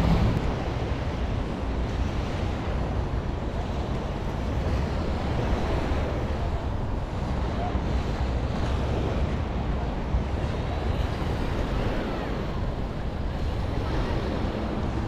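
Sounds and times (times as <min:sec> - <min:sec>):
small waves breaking on sand: 0:00.0 - 0:15.0.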